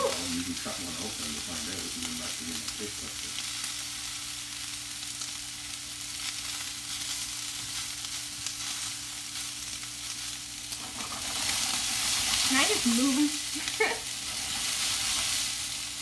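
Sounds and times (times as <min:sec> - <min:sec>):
meatballs sizzling in oil: 0:00.0 - 0:16.0.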